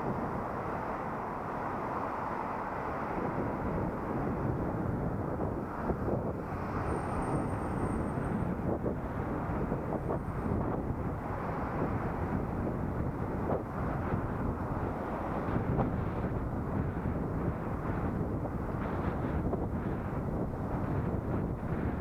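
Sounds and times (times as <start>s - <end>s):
road noise: 0.0s - 22.0s
wind noise on microphone: 0.0s - 22.0s.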